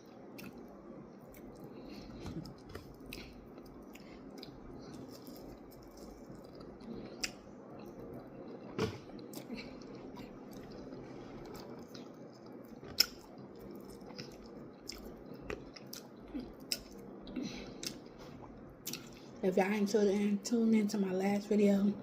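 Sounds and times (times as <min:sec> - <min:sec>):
person chewing and biting: 0:01.3 - 0:19.3.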